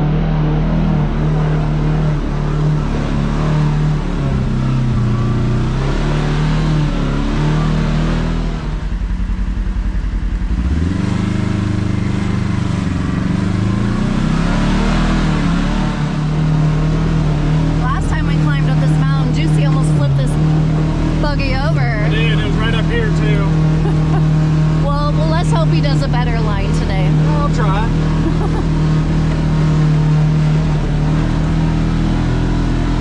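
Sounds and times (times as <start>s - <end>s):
utility vehicle engine revving: 0.0s - 33.0s.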